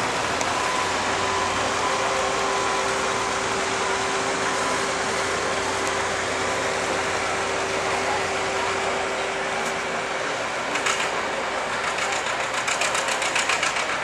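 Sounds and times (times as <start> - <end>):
tractor engine droning under load: 0.0 - 14.0.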